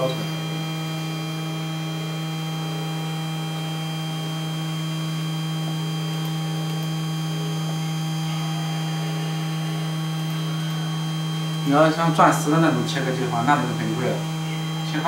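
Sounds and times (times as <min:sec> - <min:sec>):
milling machine motor hum: 0:00.0 - 0:15.0.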